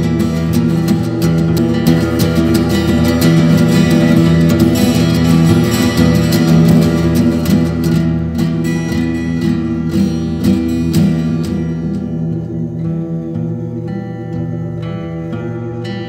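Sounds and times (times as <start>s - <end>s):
strummed acoustic guitar music: 0.0s - 16.0s.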